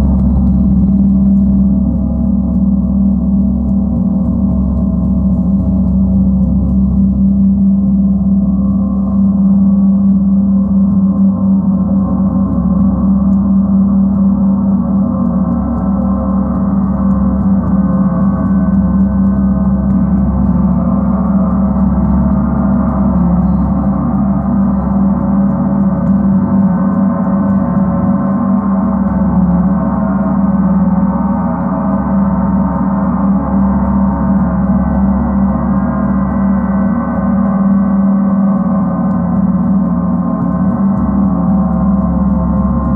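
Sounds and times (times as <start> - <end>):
low steady hum: 0.0 - 42.9.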